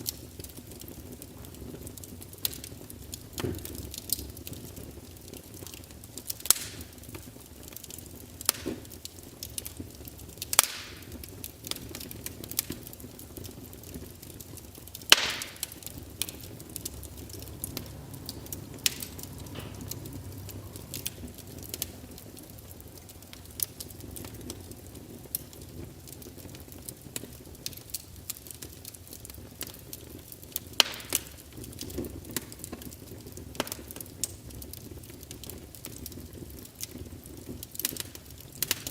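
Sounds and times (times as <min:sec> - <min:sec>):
soft steady hiss: 0:00.0 - 0:38.9
wood fire crackling: 0:00.0 - 0:38.9.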